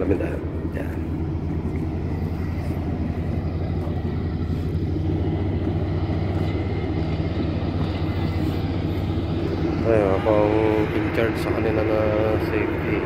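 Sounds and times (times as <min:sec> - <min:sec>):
heavy machinery engine droning: 0:00.0 - 0:13.0.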